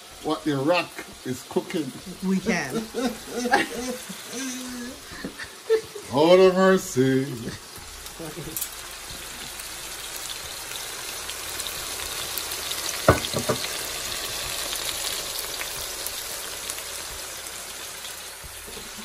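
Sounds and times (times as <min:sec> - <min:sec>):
chicken frying in oil: 0:00.0 - 0:19.0.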